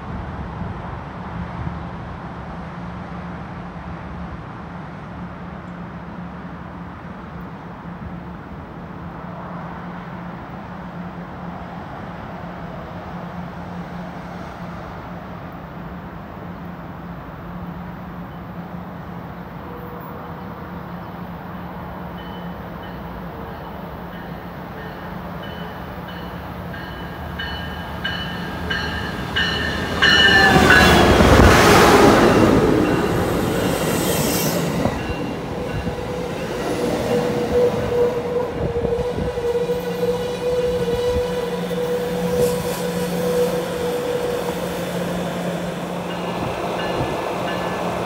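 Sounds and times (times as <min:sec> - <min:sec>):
train passing loudly: 0:00.0 - 0:48.0.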